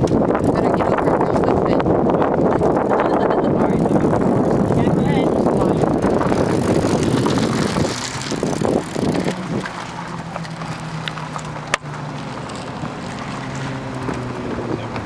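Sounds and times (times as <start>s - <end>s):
low engine hum: 0.0s - 15.0s
road and wind noise: 0.0s - 15.0s.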